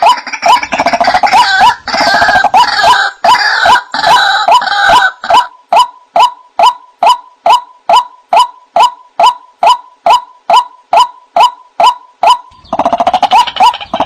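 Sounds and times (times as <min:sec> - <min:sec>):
harsh chorus of bird calls: 0:00.0 - 0:14.0
waterhen wak calls: 0:00.0 - 0:14.0.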